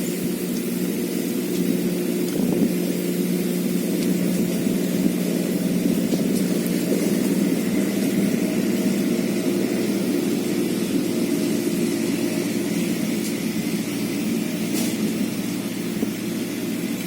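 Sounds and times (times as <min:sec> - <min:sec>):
machine drone with hiss: 0:00.0 - 0:17.0.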